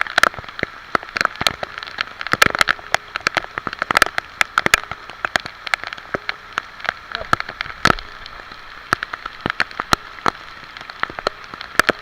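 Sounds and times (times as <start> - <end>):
raindrops tapping near microphone: 0.0 - 12.0
steady rain hiss: 0.0 - 12.0.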